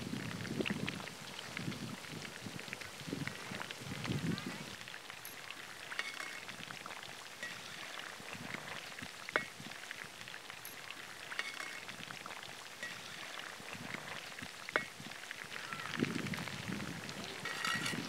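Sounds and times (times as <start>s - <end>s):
deep-frying sizzle with pops: 0.0s - 18.0s.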